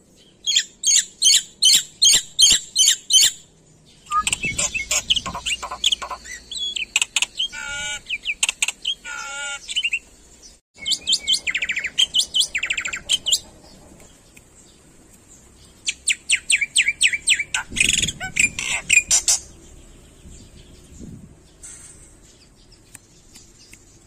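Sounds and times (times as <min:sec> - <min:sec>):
starling singing: 0:00.4 - 0:10.1, 0:10.8 - 0:21.6.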